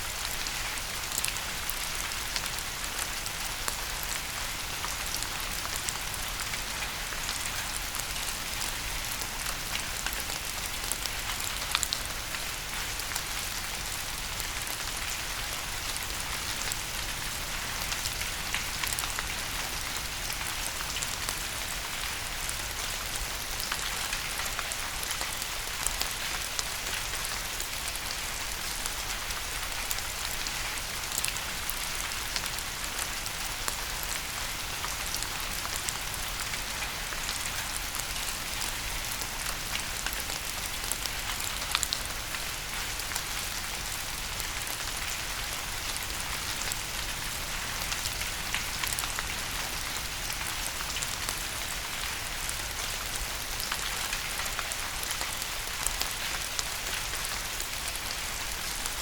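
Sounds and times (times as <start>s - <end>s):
rain drops ticking on hard surface: 0.2s - 59.0s.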